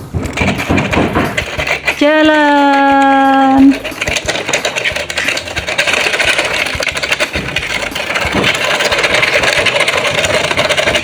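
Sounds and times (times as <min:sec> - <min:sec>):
toy truck clattering on floor: 0:00.1 - 0:11.0.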